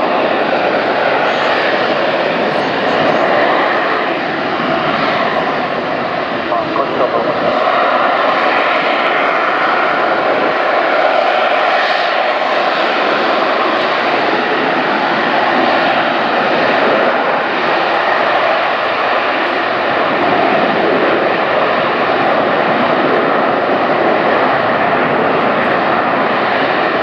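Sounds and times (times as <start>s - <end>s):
jet engine roaring: 0.0s - 27.0s.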